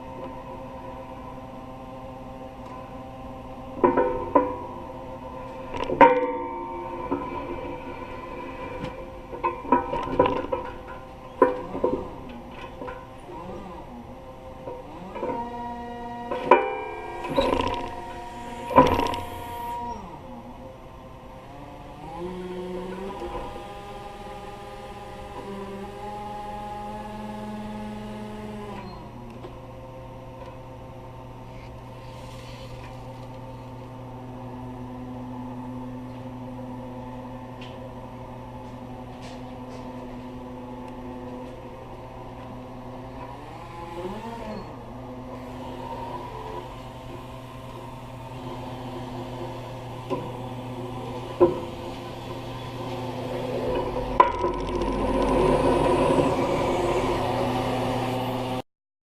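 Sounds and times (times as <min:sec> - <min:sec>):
lift truck engine running: 0:00.0 - 0:30.3, 0:32.8 - 0:58.6.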